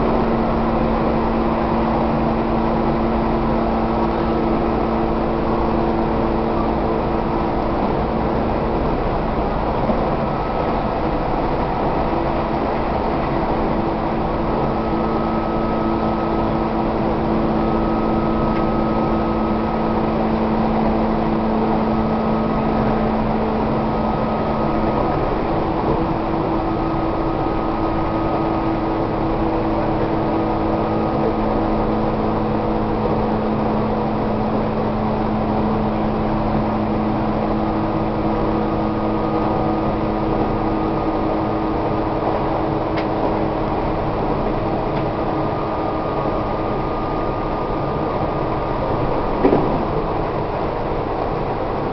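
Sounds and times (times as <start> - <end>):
train motor whine: 0.0 - 51.9
train wheels rumbling on rail: 0.0 - 51.9.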